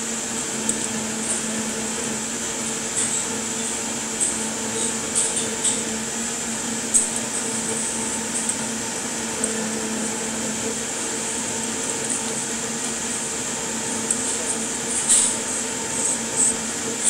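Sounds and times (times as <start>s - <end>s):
machine hum with faint whine: 0.0s - 17.0s.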